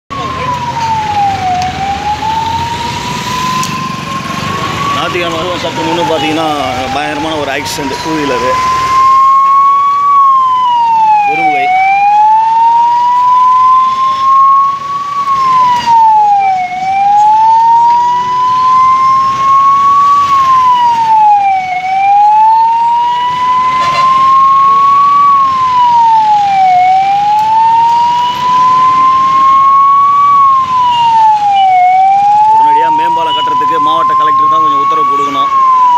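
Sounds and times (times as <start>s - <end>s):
ambulance siren wailing: 0.1s - 35.9s
road traffic: 0.1s - 35.9s.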